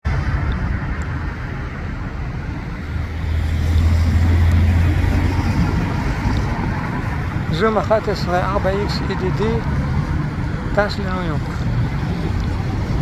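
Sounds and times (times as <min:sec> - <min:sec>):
rumble of road traffic: 0:00.0 - 0:13.0.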